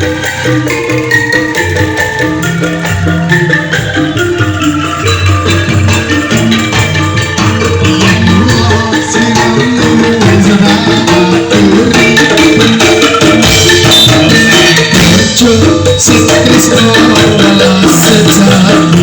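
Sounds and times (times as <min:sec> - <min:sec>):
angklung melodic notes: 0:00.0 - 0:19.0
percussion: 0:00.0 - 0:19.0.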